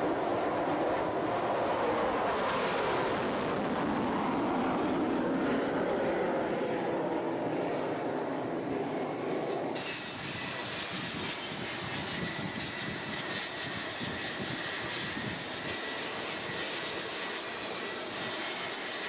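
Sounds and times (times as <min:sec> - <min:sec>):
jet engine roaring with whistle: 0:00.0 - 0:19.0
jet flying overhead roar: 0:00.0 - 0:19.0.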